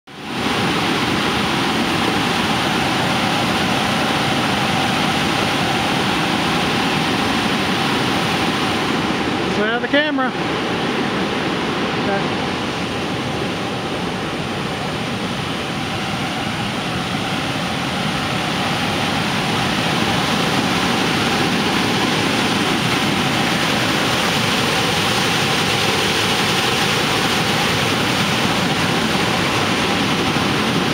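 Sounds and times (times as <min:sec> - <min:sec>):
river rushing over boulders: 0:00.1 - 0:30.9.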